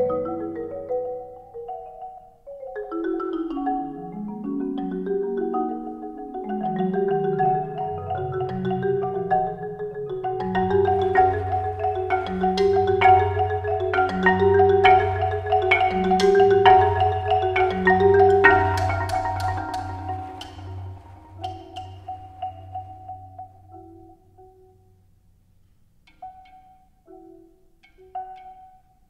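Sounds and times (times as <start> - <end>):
marimbas playing: 0.0 - 25.0, 26.1 - 29.0.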